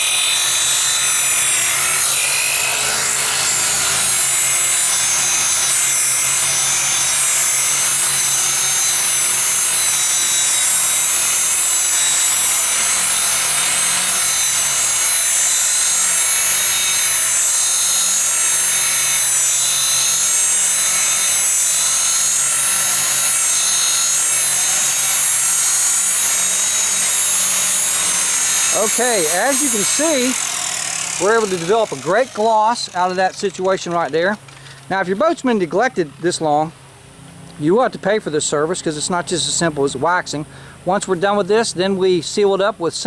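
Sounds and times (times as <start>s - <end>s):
handheld buffer running: 0.0s - 36.7s.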